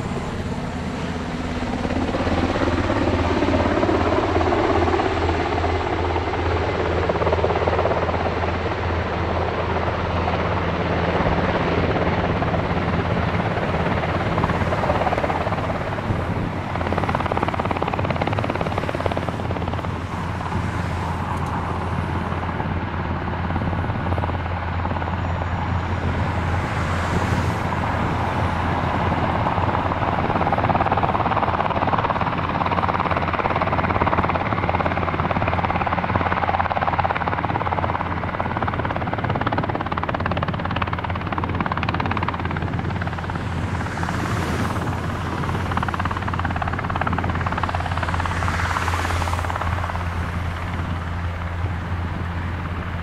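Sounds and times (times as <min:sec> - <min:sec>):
helicopter rotor blades beating: 0:00.0 - 0:53.0
helicopter turbine engines: 0:00.0 - 0:53.0.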